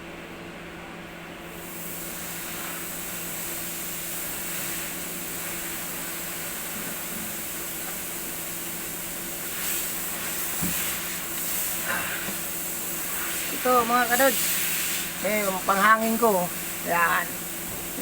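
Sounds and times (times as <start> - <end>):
electric air pump running: 1.4 - 18.0.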